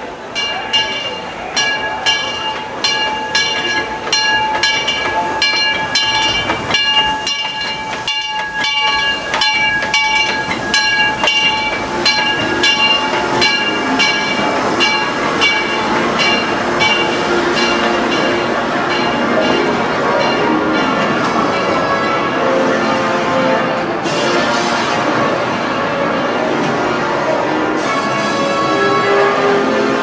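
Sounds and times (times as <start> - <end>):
steam locomotive bell ringing: 0.0 - 30.0
train rumbling and clattering: 0.0 - 30.0.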